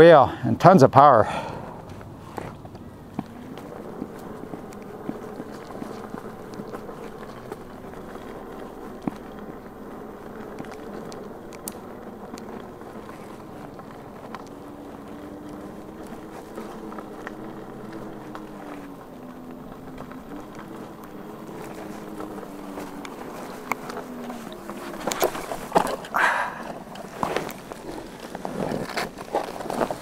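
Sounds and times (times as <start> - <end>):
electric unicycle motor whining: 0.9 - 30.0
tyre rolling on dirt: 1.0 - 30.0
wheel knocking over rough ground: 1.9 - 30.0.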